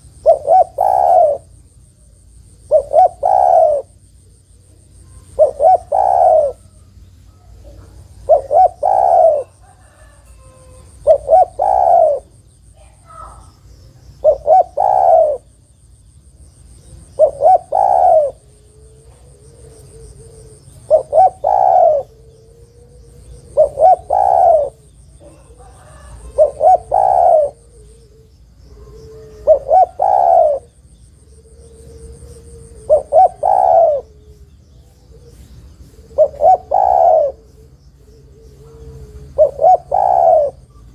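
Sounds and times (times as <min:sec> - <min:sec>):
dove cooing: 0:00.0 - 0:15.6, 0:16.7 - 0:40.9.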